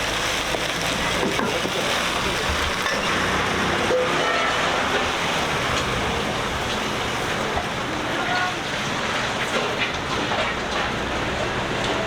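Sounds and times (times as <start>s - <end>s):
gas burner noise: 0.0s - 12.0s.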